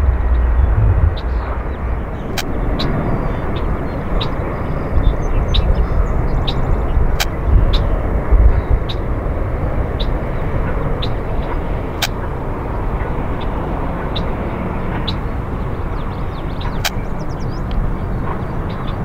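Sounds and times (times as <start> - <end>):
jet airliner rumble overhead: 0.0 - 19.0.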